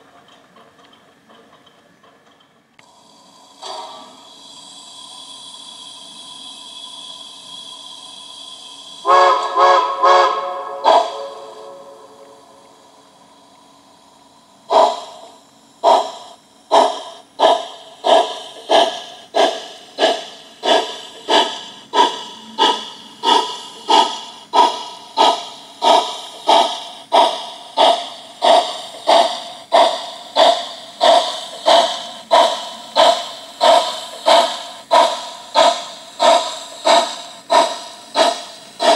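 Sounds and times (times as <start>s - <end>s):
model steam locomotive chuffing: 0.0s - 38.9s.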